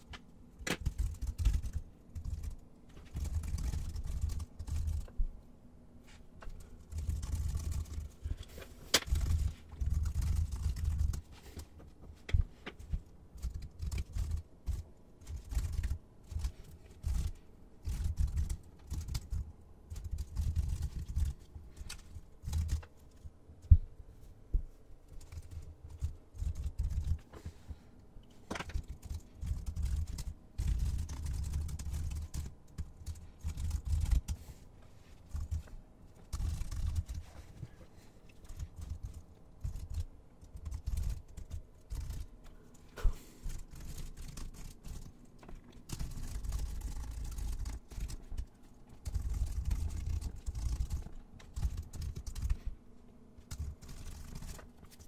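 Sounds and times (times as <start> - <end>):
computer keyboard typing: 0.0 - 5.2, 6.4 - 23.3, 25.0 - 34.6, 35.2 - 37.7, 38.3 - 52.8, 53.4 - 55.0.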